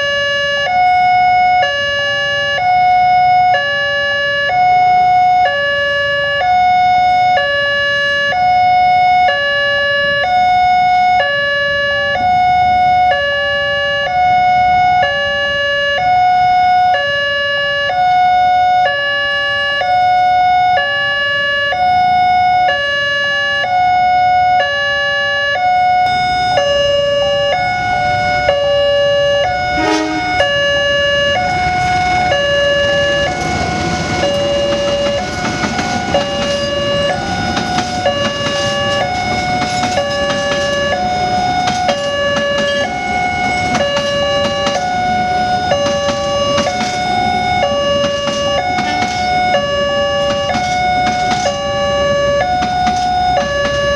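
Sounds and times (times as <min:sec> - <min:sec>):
level crossing two-tone siren: 0:00.0 - 0:53.9
second crossing siren: 0:00.0 - 0:53.9.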